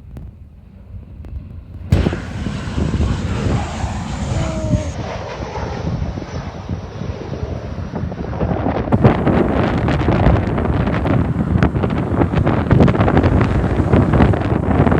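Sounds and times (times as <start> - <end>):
wind rumble on microphone: 0.0 - 14.9
airplane engine passing: 1.8 - 14.9.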